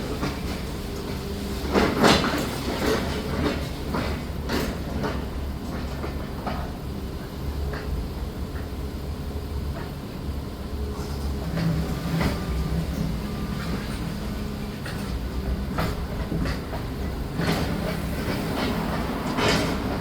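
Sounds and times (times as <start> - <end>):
demolition machinery rumbling: 0.0 - 20.0.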